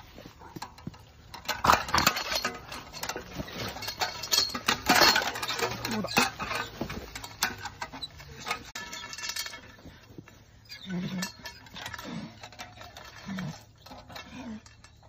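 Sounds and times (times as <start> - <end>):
rustling and scuffling: 0.0 - 15.0
metallic wire clinks: 0.2 - 15.0.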